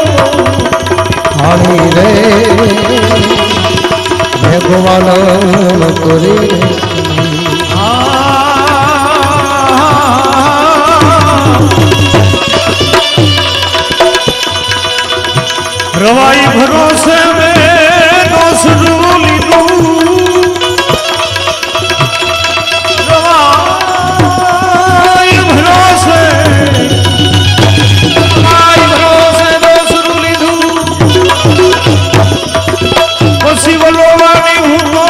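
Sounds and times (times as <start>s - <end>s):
tabla rhythm: 0.0s - 35.0s.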